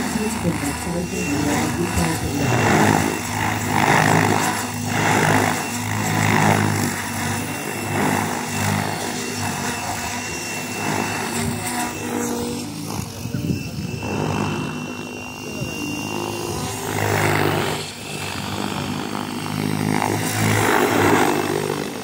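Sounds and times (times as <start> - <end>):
helicopter rotor whoosh: 0.0 - 22.0
model helicopter motor hum: 0.0 - 22.0.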